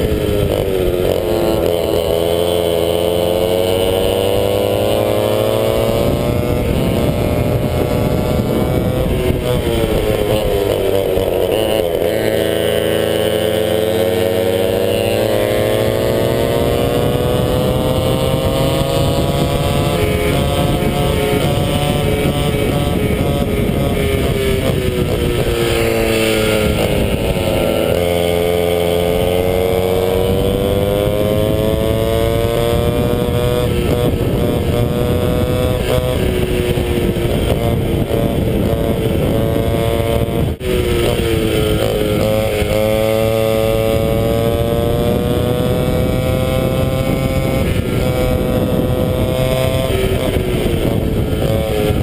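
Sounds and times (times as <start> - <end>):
kart engine racing: 0.0 - 52.0.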